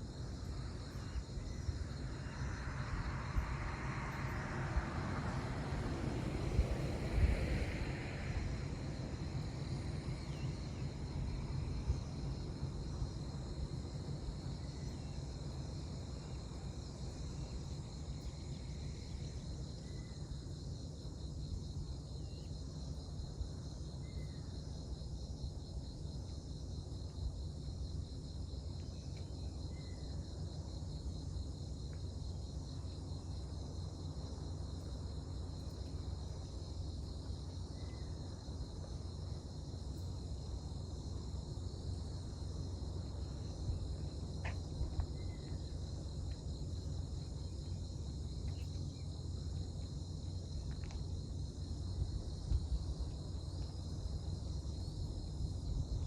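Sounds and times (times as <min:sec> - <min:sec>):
crickets trilling: 0:00.0 - 0:56.0
low steady rumble: 0:00.0 - 0:56.0.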